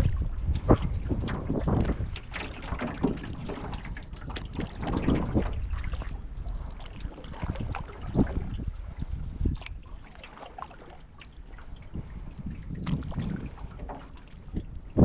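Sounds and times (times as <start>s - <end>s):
paddle dipping and dripping: 0.0s - 15.0s
water splashing around a canoe: 0.0s - 15.0s.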